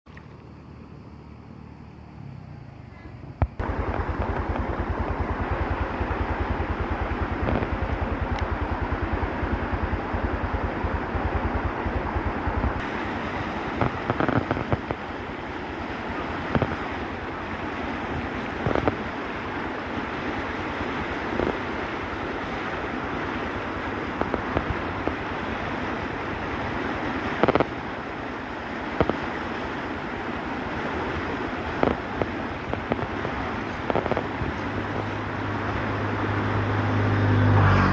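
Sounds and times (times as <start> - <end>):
storm wind and rain: 3.3 - 37.9.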